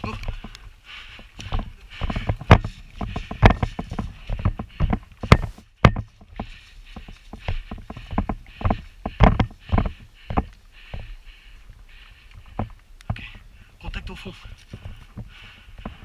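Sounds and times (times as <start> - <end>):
gear jostling: 0.0 - 13.5
running footsteps on ground: 0.0 - 16.0.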